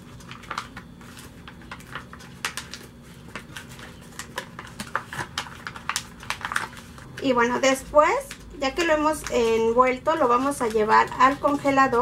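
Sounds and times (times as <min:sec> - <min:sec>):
wrapping paper crinkling: 0:00.0 - 0:07.2, 0:08.2 - 0:12.0.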